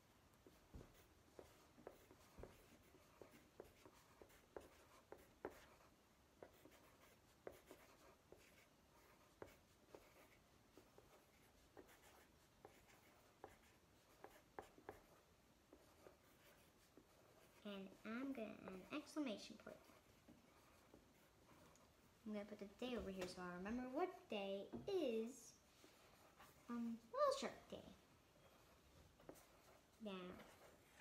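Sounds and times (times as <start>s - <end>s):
pencils scratching on paper: 0.4s - 23.5s, 25.3s - 27.7s, 28.4s - 31.0s.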